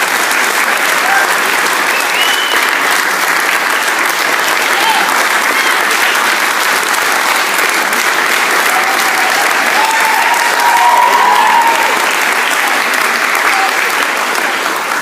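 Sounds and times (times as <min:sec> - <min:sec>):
audience applause: 0:00.0 - 0:15.0.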